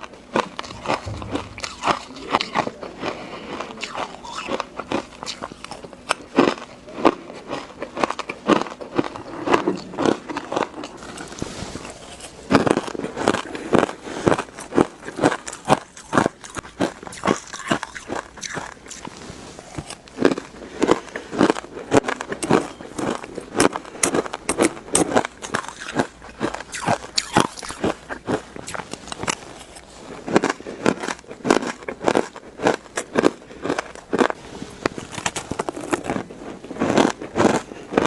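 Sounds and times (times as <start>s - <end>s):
chewing shaved ice crunches: 0.0s - 38.0s.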